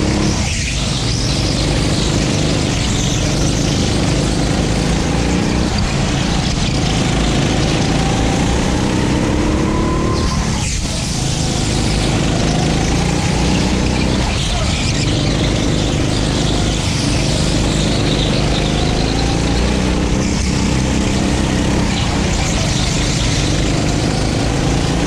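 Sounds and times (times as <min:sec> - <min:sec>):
go-kart engine running hard: 0:00.0 - 0:25.0.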